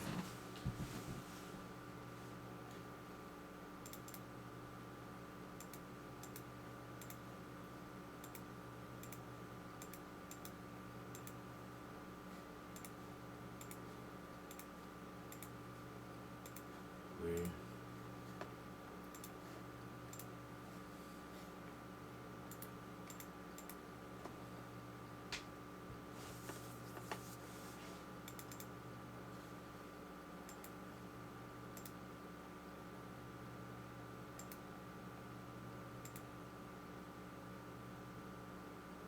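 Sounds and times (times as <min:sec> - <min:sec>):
faint electrical hum: 0:00.0 - 0:39.0.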